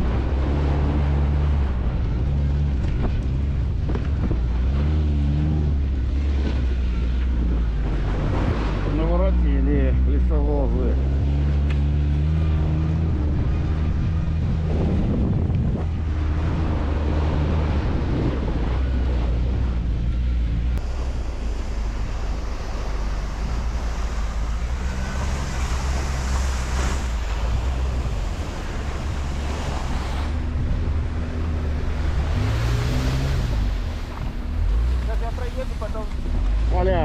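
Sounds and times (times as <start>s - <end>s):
atv engine running: 0.0s - 37.0s
wind buffeting microphone: 0.0s - 37.0s.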